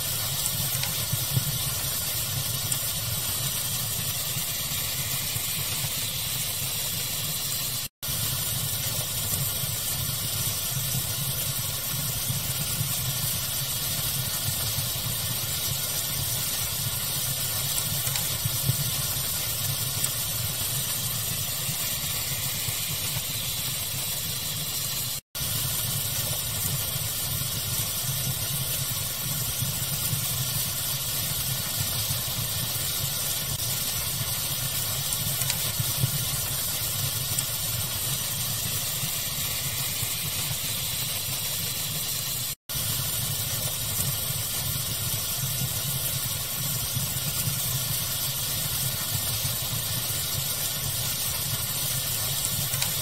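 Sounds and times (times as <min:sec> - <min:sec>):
fire crackling: 0:00.0 - 0:53.0.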